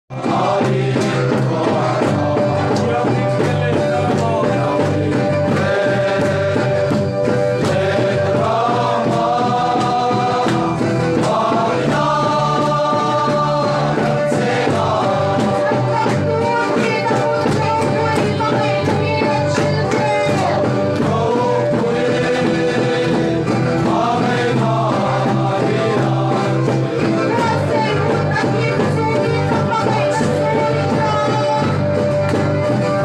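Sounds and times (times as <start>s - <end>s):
crowd singing a hymn: 0.1s - 33.0s
steady drumbeat: 0.1s - 33.0s.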